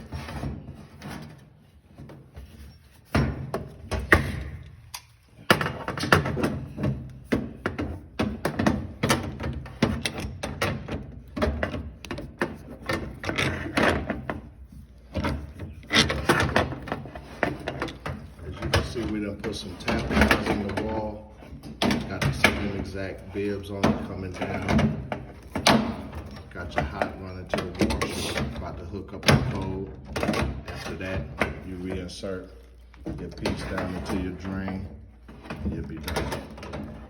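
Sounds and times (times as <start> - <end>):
knocks and clatter on plumbing fittings: 0.0 - 37.0.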